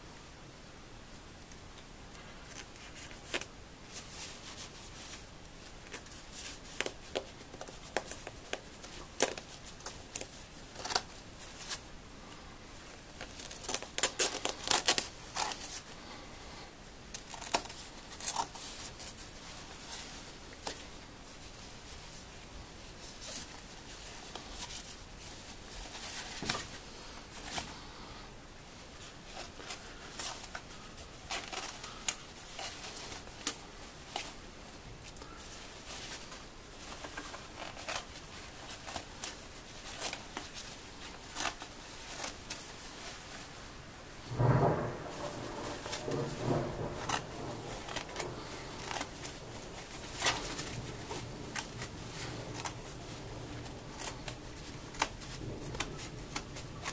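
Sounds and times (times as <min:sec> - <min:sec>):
nylon fabric crinkling: 0:02.2 - 0:11.9, 0:12.8 - 0:16.4, 0:17.0 - 0:27.9, 0:28.7 - 0:56.9.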